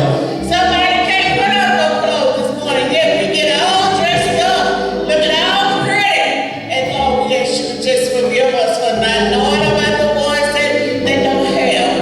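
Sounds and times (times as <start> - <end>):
voices singing a cappella: 0.0 - 12.0.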